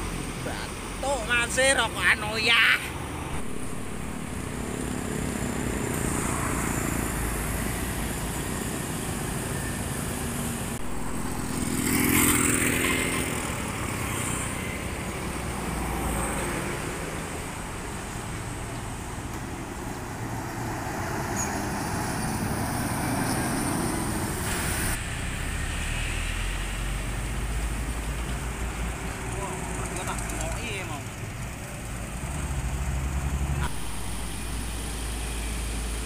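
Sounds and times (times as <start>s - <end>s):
road traffic passing: 0.0s - 36.0s.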